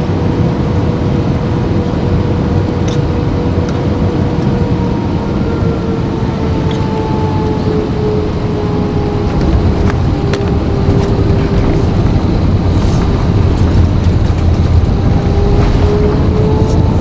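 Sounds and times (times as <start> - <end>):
airplane engines and runway rumble: 0.0 - 17.0
droning tone: 0.0 - 17.0.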